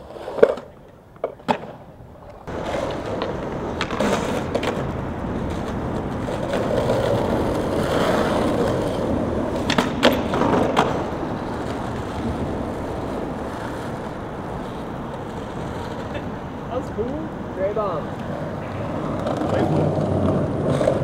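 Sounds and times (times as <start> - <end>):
skateboard clacks: 0.0 - 17.2, 18.0 - 21.0
skateboard wheels rolling on asphalt: 0.0 - 21.0.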